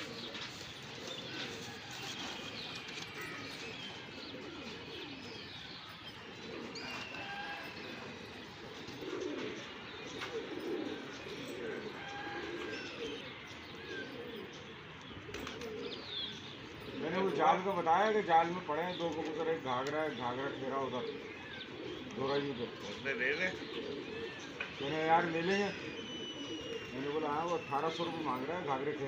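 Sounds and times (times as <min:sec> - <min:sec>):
pigeons cooing: 0:00.0 - 0:29.0
small birds chirping: 0:00.0 - 0:29.0.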